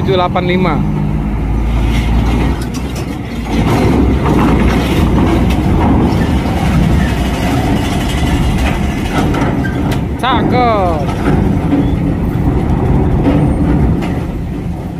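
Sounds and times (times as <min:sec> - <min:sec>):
diesel truck engine: 0:00.0 - 0:14.9
metal ramp clattering: 0:01.8 - 0:14.9.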